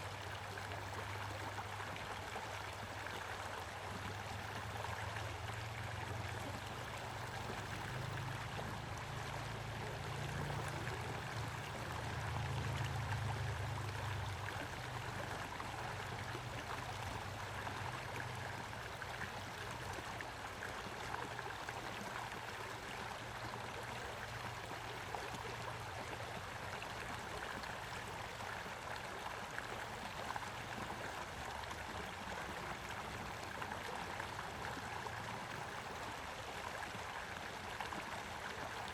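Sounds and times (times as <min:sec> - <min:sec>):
stream rushing and babbling: 0:00.0 - 0:38.9.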